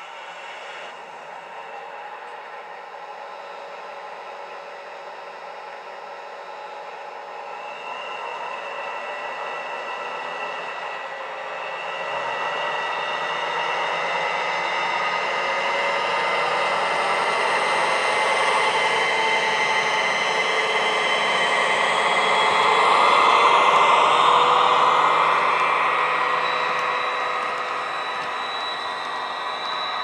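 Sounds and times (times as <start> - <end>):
diesel locomotive engine sound: 0.0 - 30.0.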